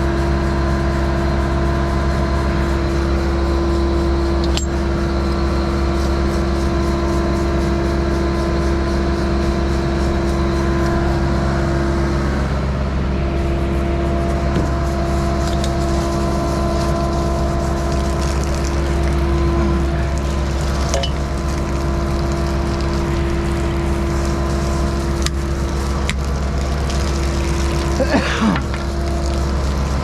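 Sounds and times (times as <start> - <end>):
concrete pump engine hum: 0.0 - 30.0.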